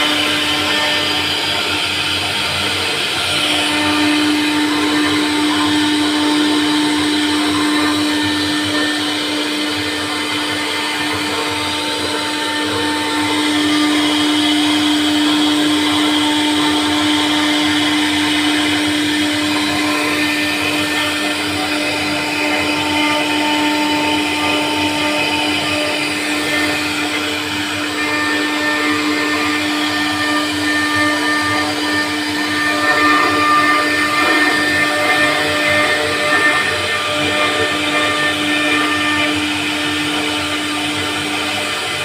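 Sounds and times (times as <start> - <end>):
router spindle whining: 0.0 - 42.0
wood cutting noise: 0.0 - 42.0.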